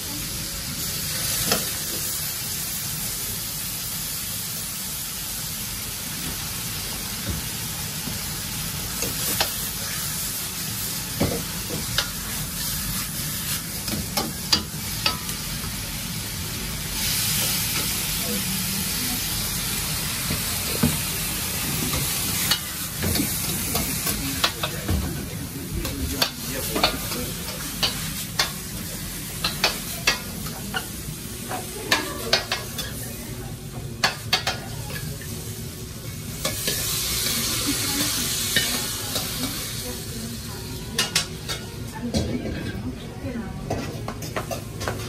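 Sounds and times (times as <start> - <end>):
steady sizzling in a wok: 0.0 - 45.0.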